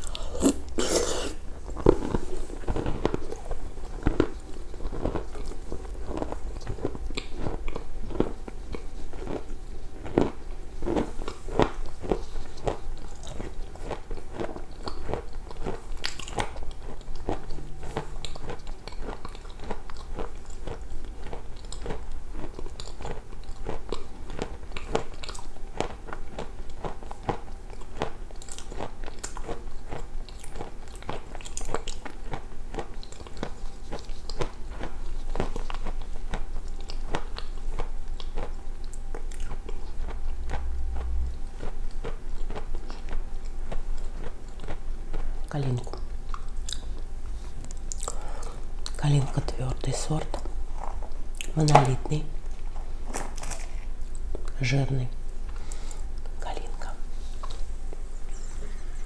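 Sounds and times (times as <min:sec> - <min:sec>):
crunchy food chewing: 0:00.0 - 0:54.6.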